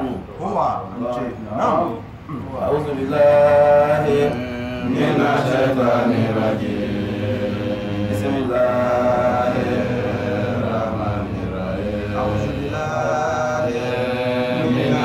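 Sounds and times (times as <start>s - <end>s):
men chanting religious recitation: 0.0s - 15.0s.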